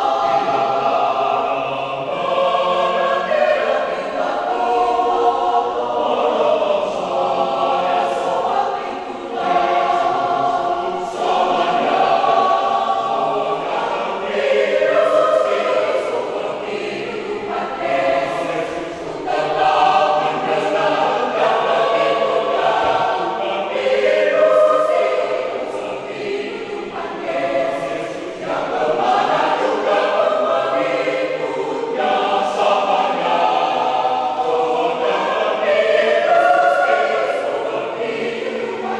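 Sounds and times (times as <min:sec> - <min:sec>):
church choir singing a hymn: 0:00.0 - 0:38.9.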